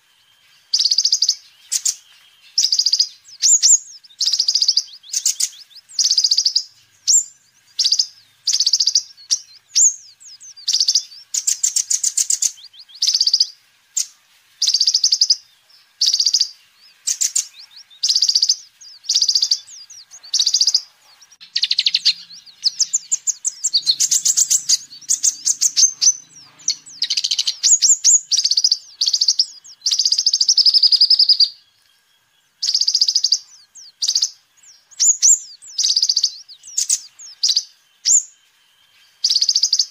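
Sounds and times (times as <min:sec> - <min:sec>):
sunbird chirping trills: 0:00.0 - 0:39.9.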